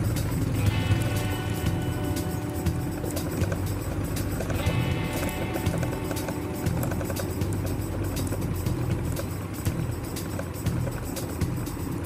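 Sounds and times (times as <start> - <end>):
background music sustained tones: 0.0 - 12.0
motorcycle riding on dirt trail: 0.0 - 12.0.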